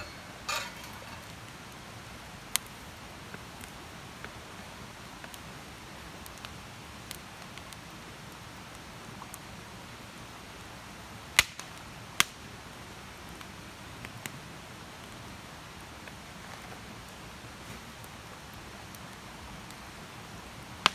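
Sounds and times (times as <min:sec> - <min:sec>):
campfire hiss and crackles: 0:00.0 - 0:20.9.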